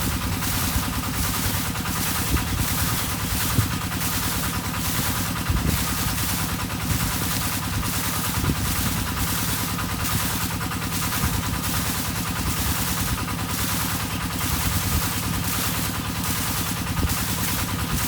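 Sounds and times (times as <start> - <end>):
water pump engine running: 0.0 - 18.0.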